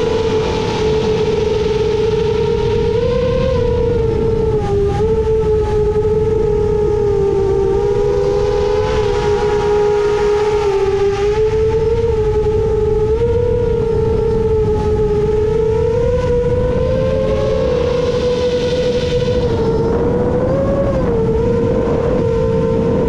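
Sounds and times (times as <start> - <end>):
low wind noise: 0.0 - 23.0
quadcopter propellers whining: 0.0 - 23.0.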